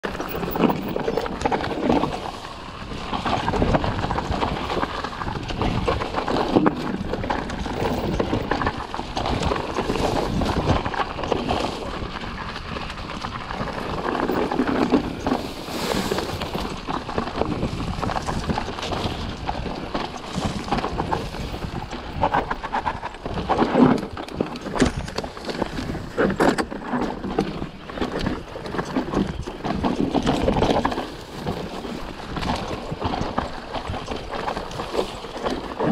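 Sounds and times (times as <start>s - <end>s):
bike rattling over bumps: 0.0s - 35.9s
tyres on dirt: 0.0s - 35.9s.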